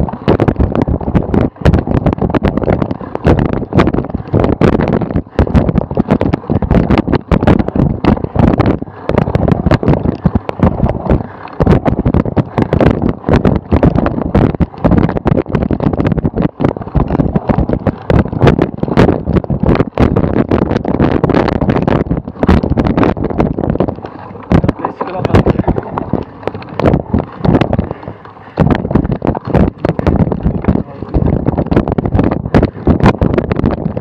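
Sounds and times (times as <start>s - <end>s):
bike knocking and rattling: 0.0s - 34.0s
wind buffeting microphone: 0.0s - 34.0s.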